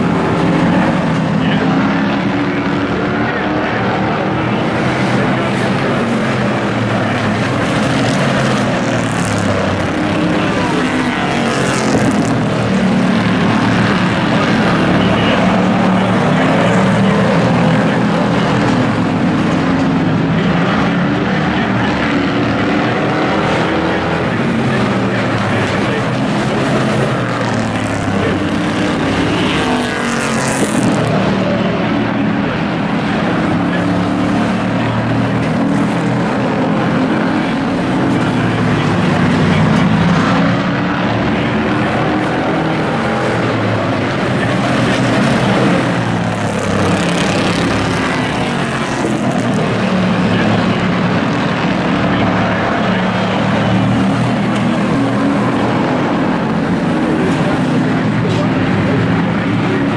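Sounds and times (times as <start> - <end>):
race truck engines running: 0.0 - 59.9.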